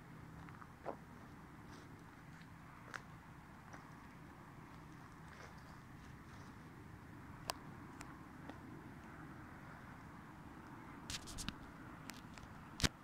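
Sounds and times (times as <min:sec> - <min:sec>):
faint low rumble: 0:00.0 - 0:12.8.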